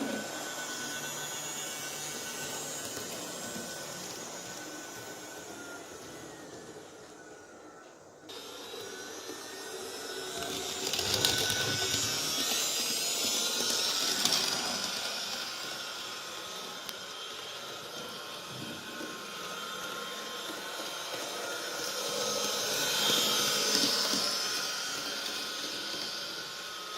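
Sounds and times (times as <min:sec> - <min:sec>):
model locomotive motor whirring: 0:00.0 - 0:26.9.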